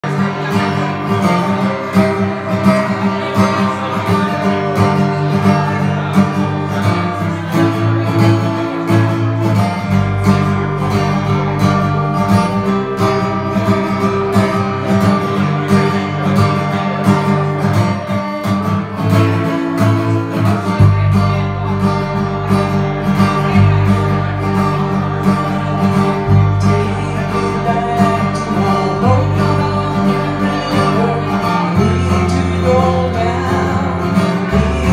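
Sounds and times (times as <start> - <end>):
two guitars playing: 0.0 - 34.9.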